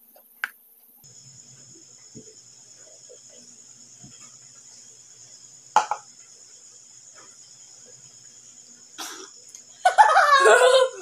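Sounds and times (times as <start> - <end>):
steady high-pitched buzz: 0.0 - 11.0.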